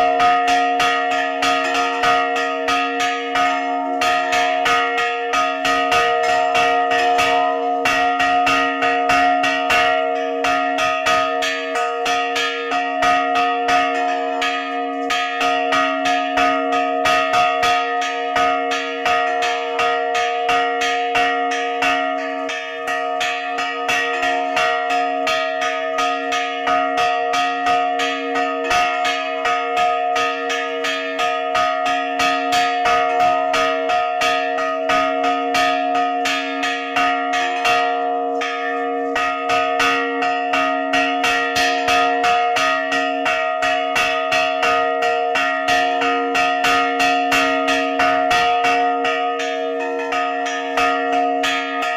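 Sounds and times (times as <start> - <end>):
church bell ringing rapidly: 0.0 - 51.9.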